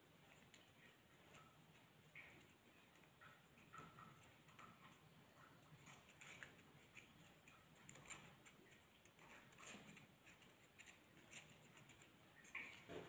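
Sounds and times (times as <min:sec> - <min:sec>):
floral tape ticks and rustles: 0:00.0 - 0:13.0.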